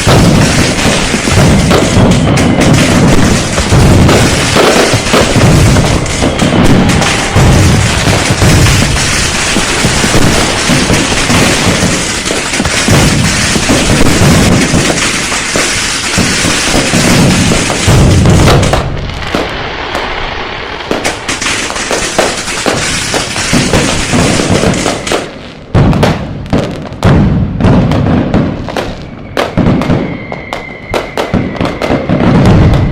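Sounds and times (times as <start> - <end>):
firecrackers and fireworks banging: 0.0 - 32.9.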